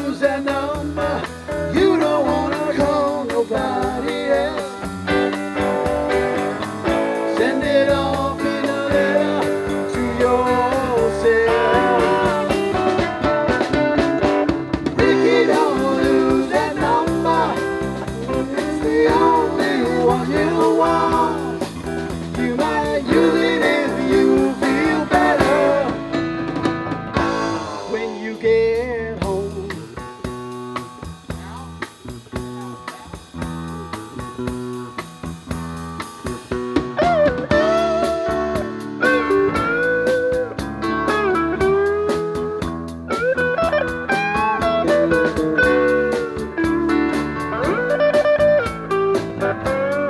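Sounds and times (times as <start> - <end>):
drum kit with cymbals: 0.0 - 50.0
electric bass: 0.0 - 50.0
electric guitar lead: 0.0 - 50.0.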